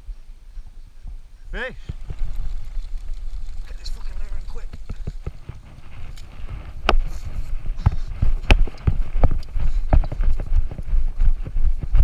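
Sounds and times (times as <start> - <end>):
wind rumble on microphone: 0.0 - 12.0
running footsteps on wet grass: 0.6 - 12.0.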